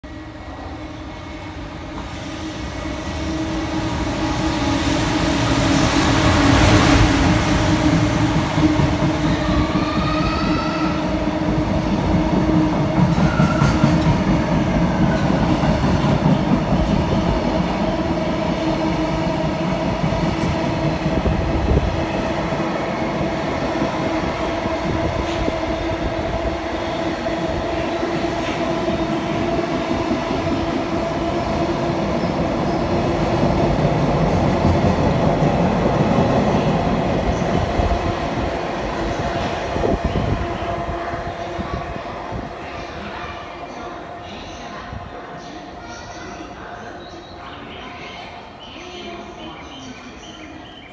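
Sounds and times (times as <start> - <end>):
electric locomotive passing: 0.1 - 50.9.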